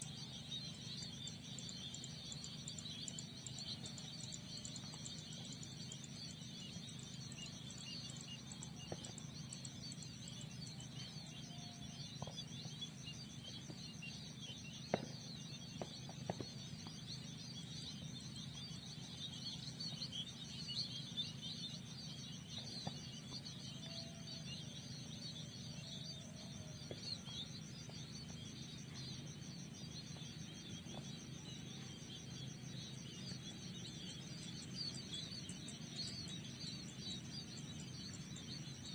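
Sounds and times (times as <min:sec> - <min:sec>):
low steady hum: 0:00.0 - 0:38.9
pulsing insect trill: 0:00.0 - 0:38.9
small birds chirping: 0:00.0 - 0:38.9.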